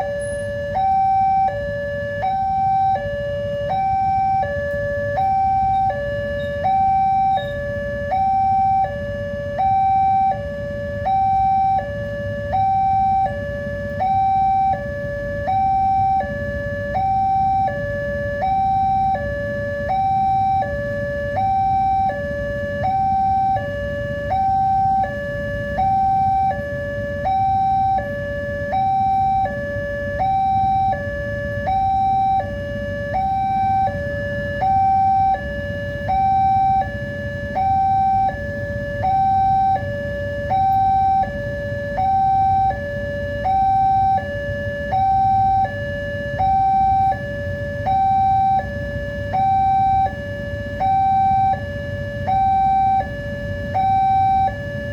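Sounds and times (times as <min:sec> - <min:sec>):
two-tone crossing warning alarm: 0:00.0 - 0:54.9.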